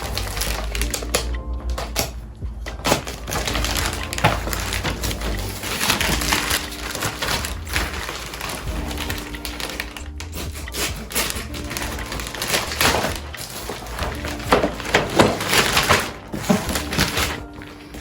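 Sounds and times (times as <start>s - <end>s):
crinkling handling noises: 0.0s - 18.0s.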